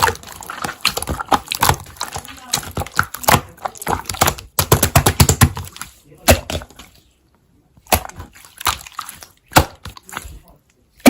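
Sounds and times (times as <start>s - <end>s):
slime squishing wet pops: 0.0s - 7.0s, 7.7s - 10.7s.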